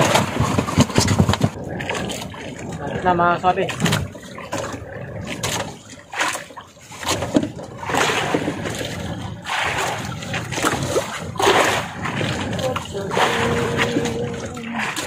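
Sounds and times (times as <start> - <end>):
water splashing against boat hull: 0.0 - 15.0.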